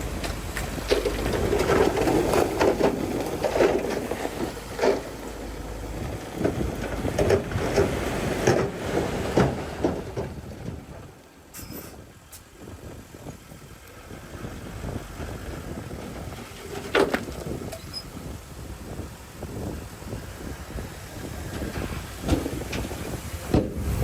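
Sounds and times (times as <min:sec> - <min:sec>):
bulldozer engine running: 0:00.0 - 0:24.0.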